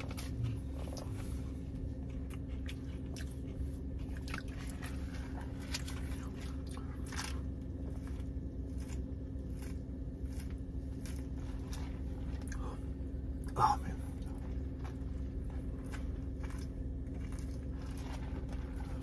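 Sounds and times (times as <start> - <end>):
chewing and biting: 0.0 - 19.0
steady low hum: 0.0 - 19.0.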